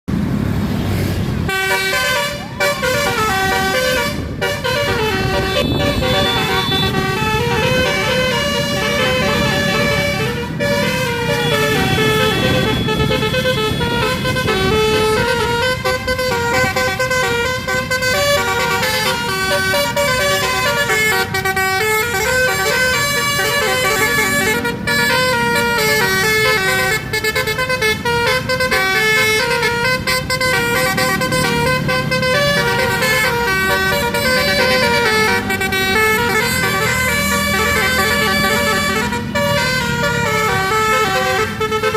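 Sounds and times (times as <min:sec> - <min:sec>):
multi-tone bus horn tune: 0:01.4 - 0:41.9.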